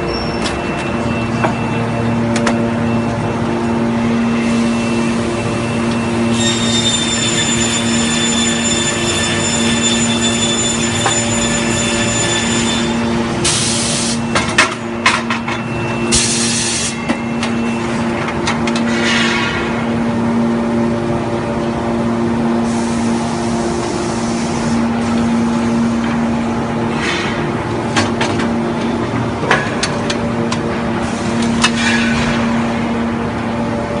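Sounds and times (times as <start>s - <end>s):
industrial machinery humming: 0.0s - 34.0s.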